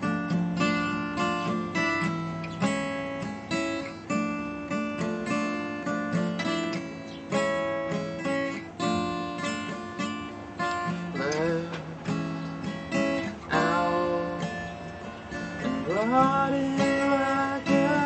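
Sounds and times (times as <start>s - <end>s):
acoustic guitar chords strummed: 0.0s - 18.0s.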